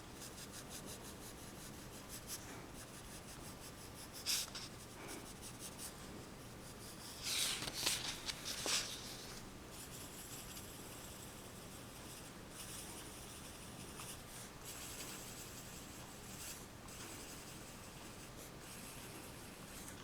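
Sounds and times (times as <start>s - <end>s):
pencil scratching on paper: 0.2s - 20.0s.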